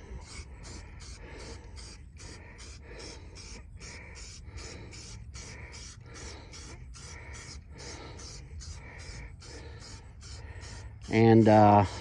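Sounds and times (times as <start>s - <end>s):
rasping scrubbing on wheel rim: 0.0s - 12.0s.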